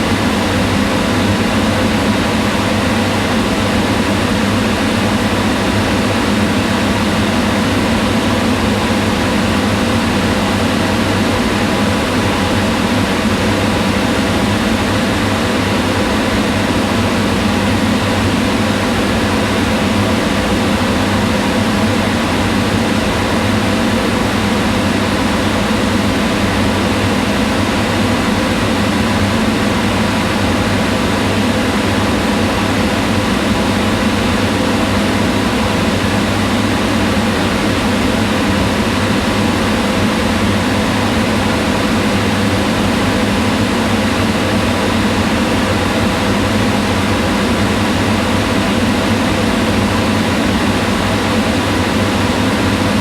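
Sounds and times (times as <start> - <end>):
range hood fan running: 0.0 - 53.0.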